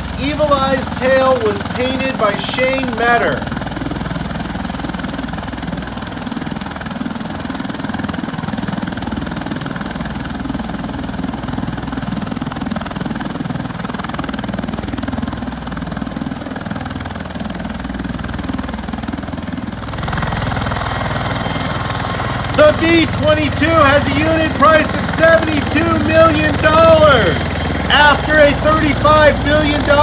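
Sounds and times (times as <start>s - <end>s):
rotor and turbine drone: 0.0s - 30.0s.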